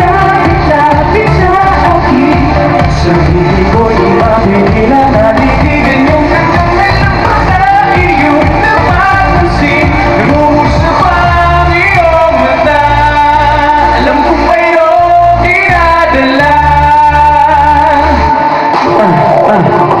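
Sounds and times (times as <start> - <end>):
backing track through speakers: 0.0 - 20.0
man singing into microphone: 0.0 - 20.0.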